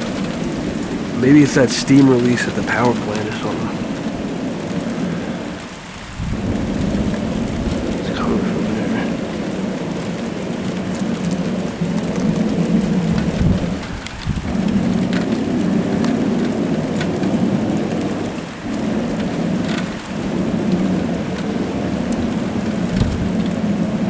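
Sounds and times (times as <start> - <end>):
distant low roar: 0.0 - 24.0.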